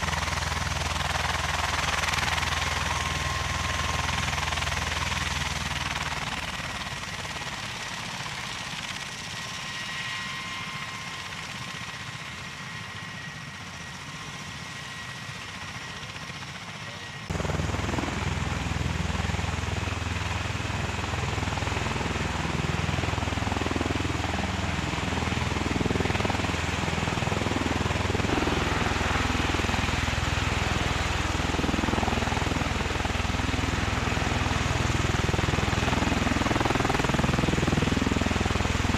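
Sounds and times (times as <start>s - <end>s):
aircraft engines and rotors running: 0.0s - 38.9s.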